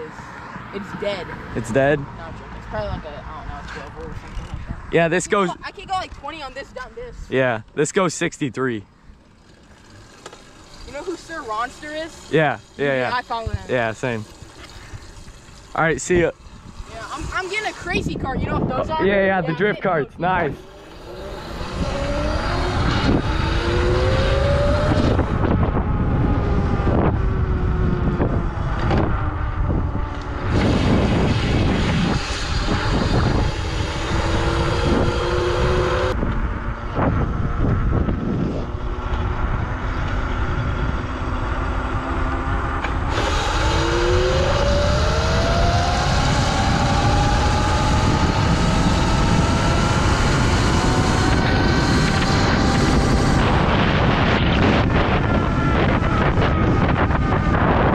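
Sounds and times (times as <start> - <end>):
wind rush on microphone: 2.7 - 5.0, 13.4 - 57.9
electric motor whining: 9.1 - 57.9.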